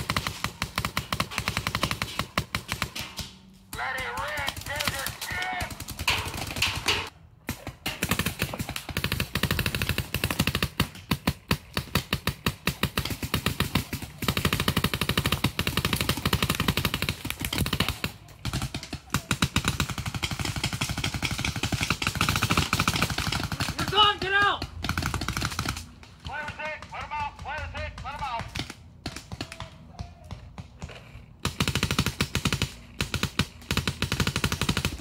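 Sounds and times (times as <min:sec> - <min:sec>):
paintball marker rapid firing: 0:00.0 - 0:03.4, 0:04.0 - 0:35.0.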